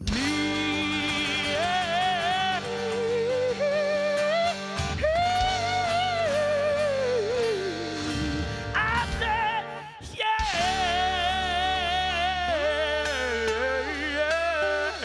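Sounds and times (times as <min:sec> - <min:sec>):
acoustic band playing: 0:00.0 - 0:15.0
person singing wordless notes: 0:00.0 - 0:15.0.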